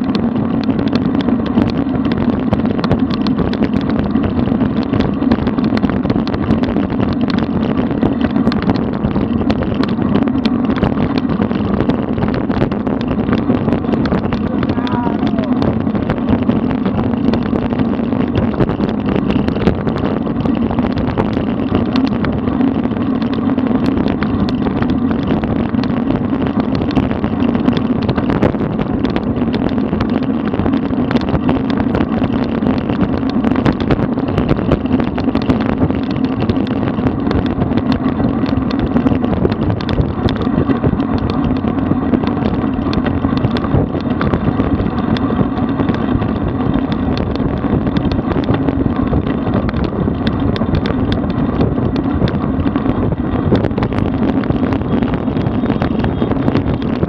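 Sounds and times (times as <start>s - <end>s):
small clicks and knocks from bike: 0.0s - 57.0s
tyres running on asphalt: 0.0s - 57.0s
wind on microphone: 0.0s - 57.0s.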